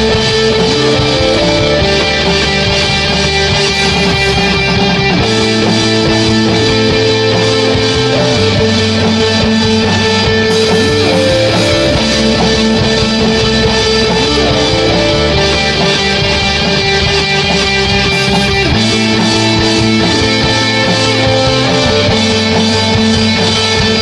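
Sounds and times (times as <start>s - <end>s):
instrumental rock guitar: 0.0s - 24.0s.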